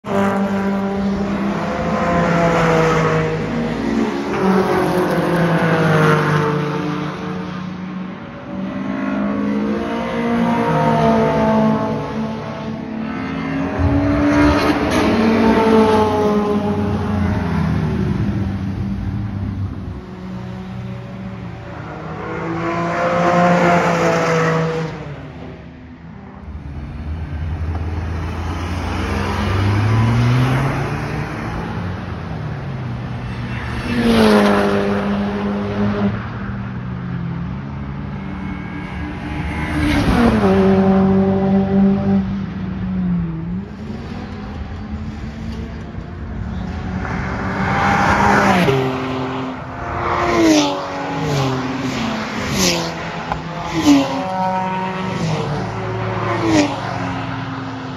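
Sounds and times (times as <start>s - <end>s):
race car engines accelerating past: 0.1s - 57.9s.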